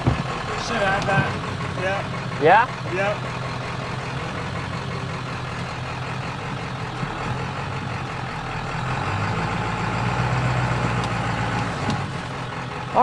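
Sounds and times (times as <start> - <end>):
diesel truck engine at low revs: 0.0 - 13.0.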